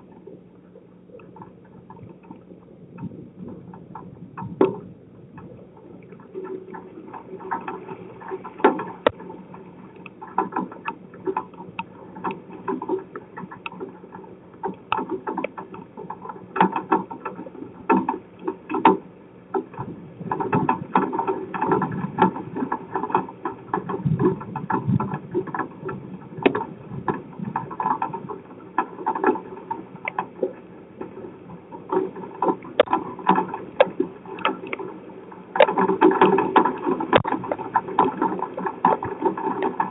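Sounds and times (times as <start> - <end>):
rain pattering: 1.1 - 18.8, 19.5 - 39.9.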